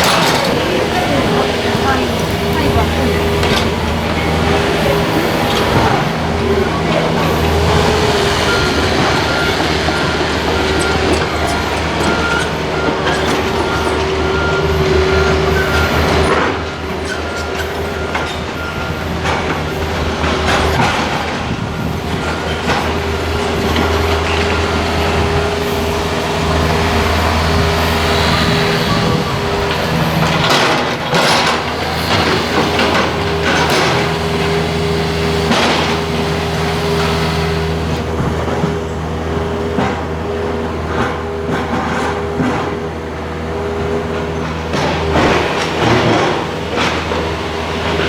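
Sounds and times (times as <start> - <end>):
electric train humming: 0.0 - 48.0
train wheels clacking: 0.0 - 48.0.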